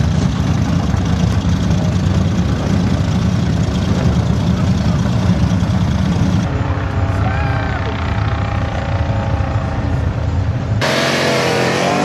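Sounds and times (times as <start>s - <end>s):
drag racing engines rumbling: 0.0s - 12.0s.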